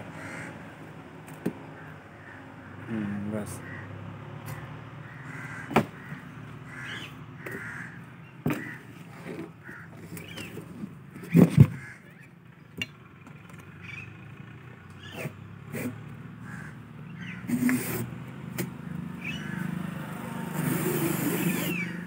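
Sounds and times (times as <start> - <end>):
birds calling: 0.0 - 0.6, 1.4 - 12.8, 13.4 - 18.1, 18.8 - 19.9, 20.6 - 22.0.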